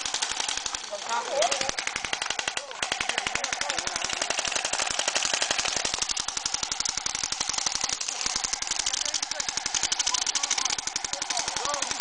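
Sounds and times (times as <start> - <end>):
airsoft guns firing full auto: 0.0 - 12.0.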